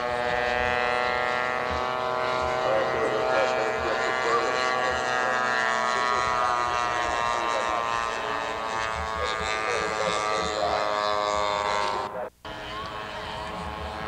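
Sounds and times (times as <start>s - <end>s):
faint voices: 0.0s - 14.0s
model plane engine droning: 0.0s - 14.0s.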